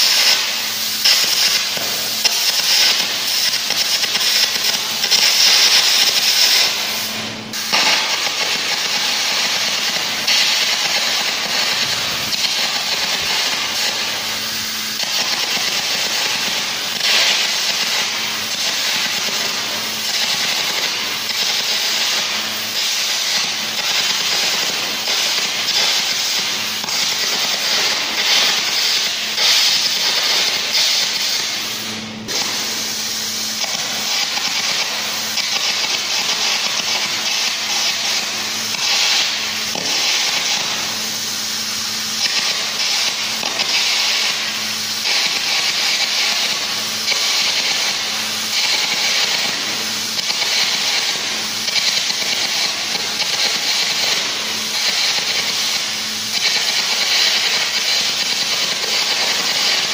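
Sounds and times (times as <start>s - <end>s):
arc gouging hissing crackle: 0.0s - 59.9s.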